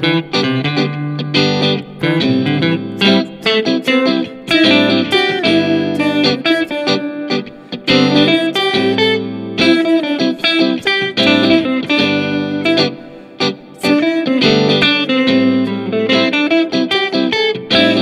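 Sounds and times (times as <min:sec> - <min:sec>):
backing track chords: 0:00.0 - 0:18.0
electric guitar lead phrases: 0:00.0 - 0:18.0.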